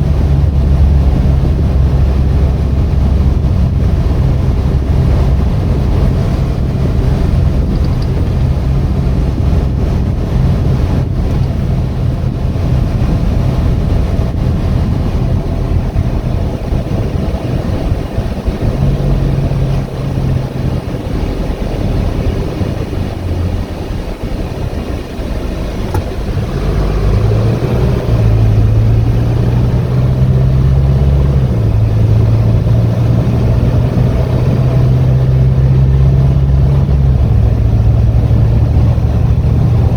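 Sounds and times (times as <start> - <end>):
diesel truck engine running: 0.0 - 39.9
road noise: 0.0 - 39.9.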